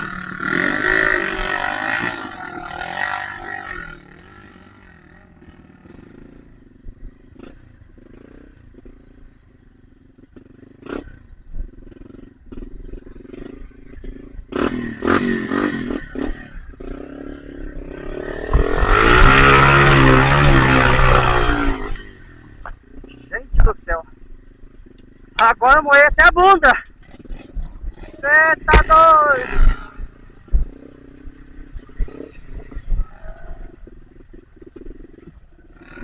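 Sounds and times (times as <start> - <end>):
motorcycle engine running and revving: 0.0 - 36.0.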